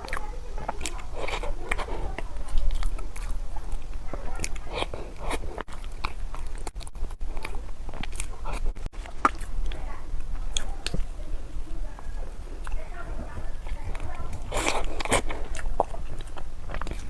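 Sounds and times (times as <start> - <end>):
biting and chewing crunchy food: 0.0 - 17.0
steady low hum: 0.0 - 17.0.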